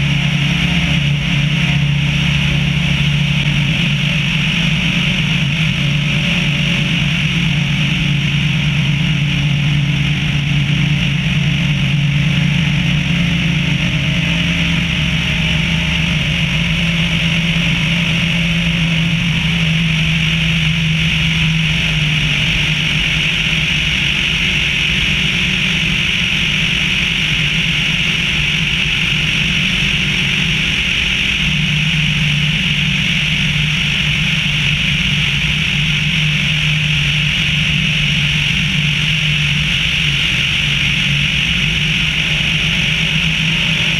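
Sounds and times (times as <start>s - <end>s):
airflow rushing over microphone: 0.0s - 43.9s
light aircraft engine drone: 0.0s - 43.9s.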